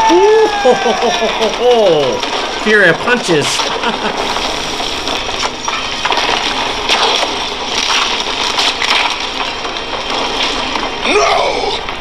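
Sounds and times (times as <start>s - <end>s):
crashing blows and breaking debris: 0.0s - 12.0s.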